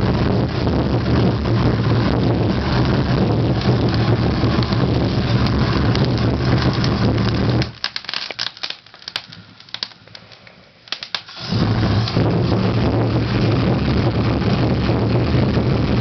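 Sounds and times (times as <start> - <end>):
loud steady humming noise: 0.0 - 16.0
wood fire crackling and popping: 0.0 - 16.0.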